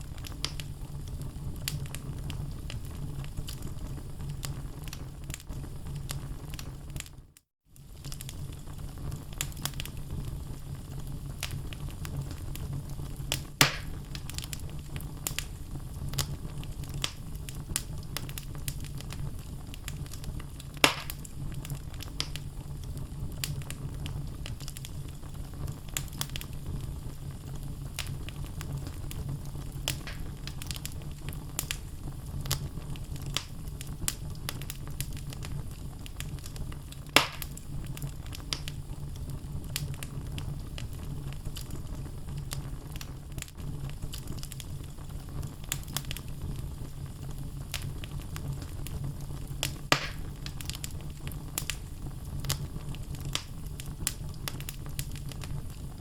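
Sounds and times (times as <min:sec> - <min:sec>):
loud fire pops: 0:00.0 - 0:07.2, 0:07.8 - 0:56.0
fire low rumble: 0:00.0 - 0:56.0
logs crackling in fireplace: 0:00.0 - 0:56.0.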